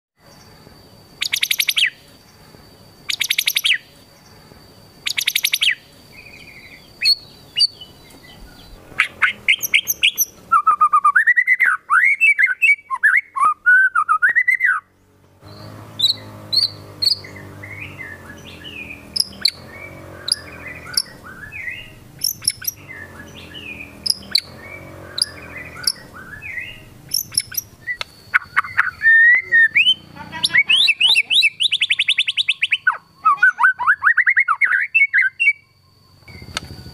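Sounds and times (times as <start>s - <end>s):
bird singing varied song: 0.2s - 36.9s.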